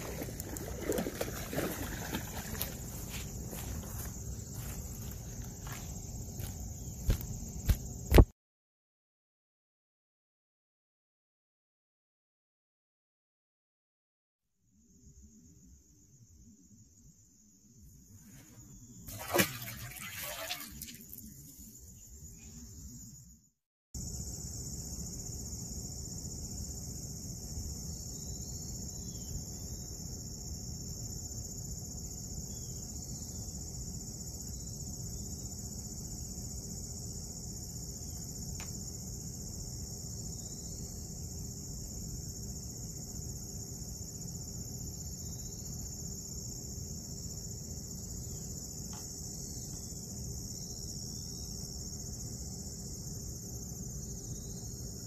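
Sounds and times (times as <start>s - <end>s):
crickets chirping: 0.0s - 8.3s, 14.6s - 55.0s.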